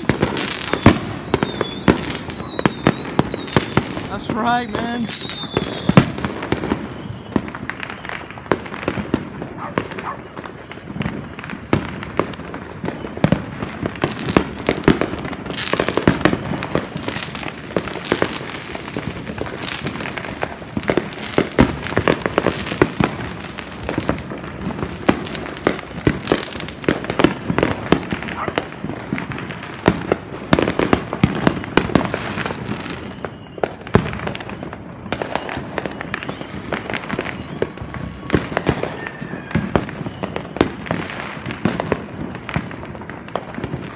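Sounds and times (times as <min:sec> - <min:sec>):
fireworks popping and crackling: 0:00.0 - 0:43.9
loud firework bangs: 0:00.0 - 0:43.9.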